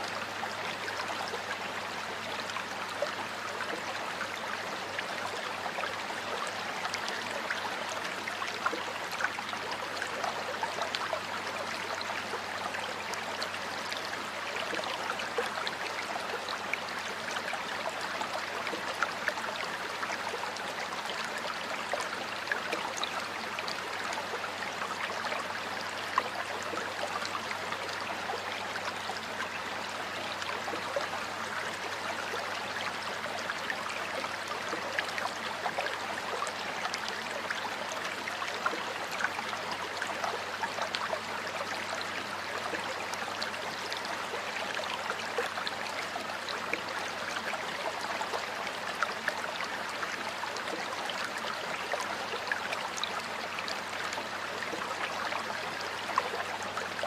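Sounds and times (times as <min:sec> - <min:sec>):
small water splashes and drips: 0:00.0 - 0:57.0
stream water flowing over rocks: 0:00.0 - 0:57.0.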